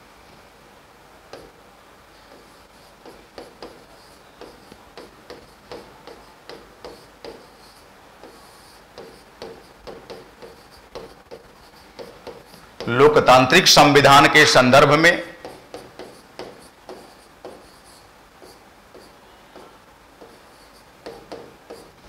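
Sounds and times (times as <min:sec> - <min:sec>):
chalk tapping and scratching on blackboard: 0:01.3 - 0:01.6, 0:02.2 - 0:12.9, 0:15.3 - 0:22.0.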